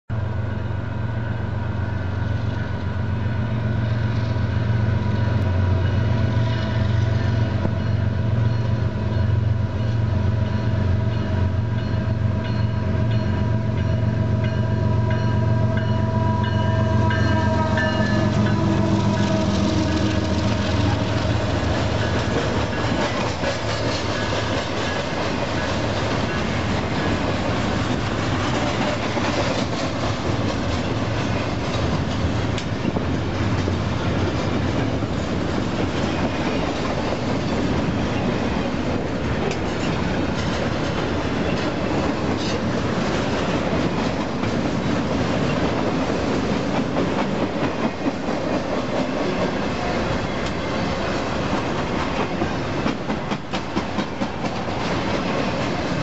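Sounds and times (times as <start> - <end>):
freight train rolling past: 0.1 - 56.0.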